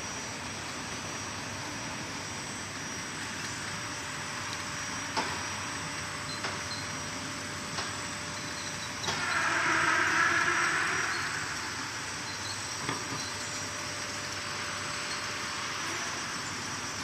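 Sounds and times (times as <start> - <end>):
bottle rinser machine running: 0.0 - 17.0.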